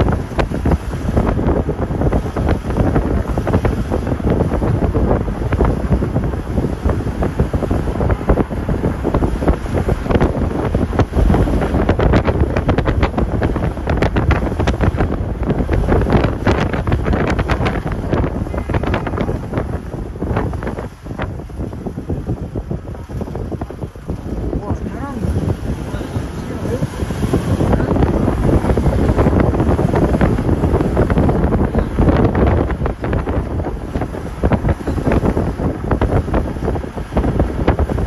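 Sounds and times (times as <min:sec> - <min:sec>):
car road and engine noise: 0:00.0 - 0:38.0
wind buffeting microphone: 0:00.0 - 0:38.0.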